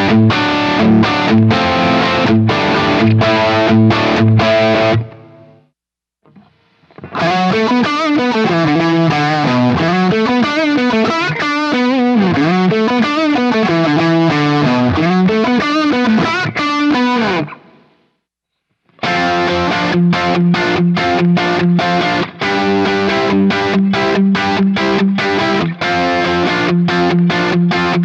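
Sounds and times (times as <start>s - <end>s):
overdriven electric guitar lead: 0.0s - 18.0s, 18.9s - 28.0s
choppy guitar chords: 0.0s - 18.1s, 18.9s - 28.0s.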